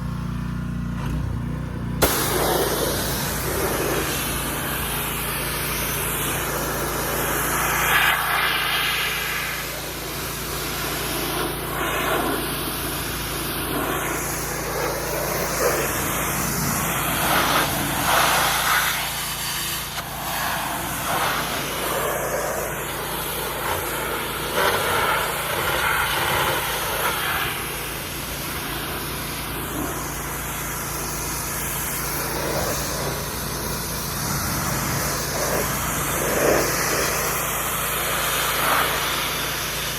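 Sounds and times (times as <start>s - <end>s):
steady low hum: 1.3s - 39.2s
hose spraying water: 2.0s - 39.9s.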